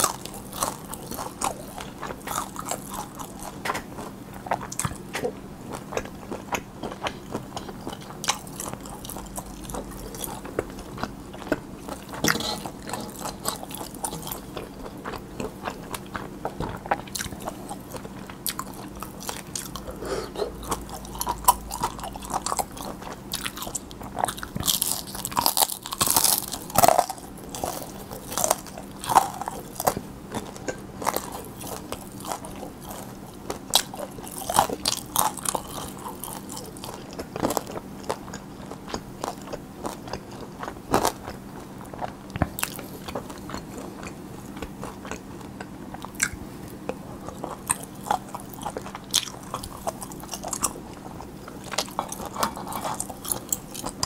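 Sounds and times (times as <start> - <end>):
chewing and crunching: 0.0 - 54.0
faint hum: 0.0 - 54.0.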